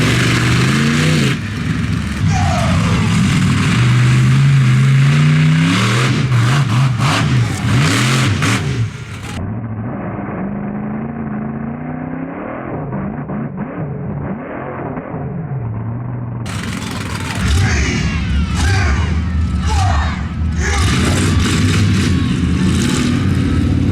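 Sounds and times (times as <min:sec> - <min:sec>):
large vehicle engine revving: 0:00.0 - 0:23.9.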